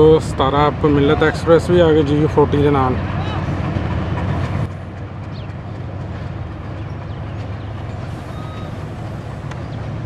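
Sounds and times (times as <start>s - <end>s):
distant diesel locomotive rumble: 0.0s - 10.0s.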